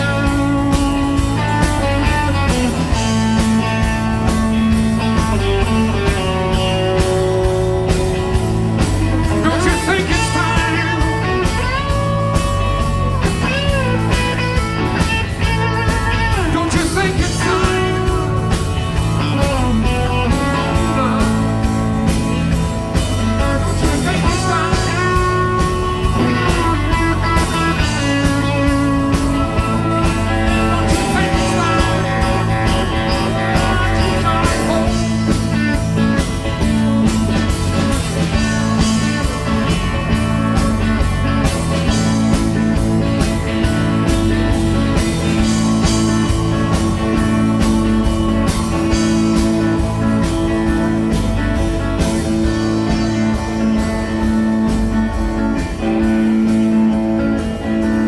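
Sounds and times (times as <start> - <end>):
electric guitar lead with bent notes: 0.0 - 58.0
live rock band playing: 0.0 - 58.0.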